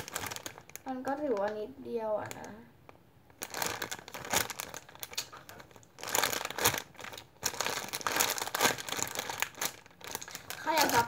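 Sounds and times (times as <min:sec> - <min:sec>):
plastic bag crinkling: 0:00.0 - 0:02.6, 0:03.3 - 0:11.0.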